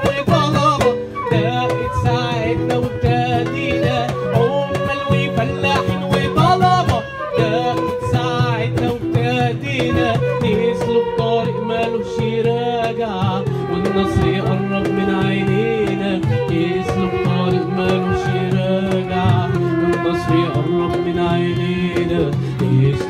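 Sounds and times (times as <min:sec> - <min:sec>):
acoustic ensemble playing: 0:00.0 - 0:23.0
man singing: 0:00.0 - 0:23.0.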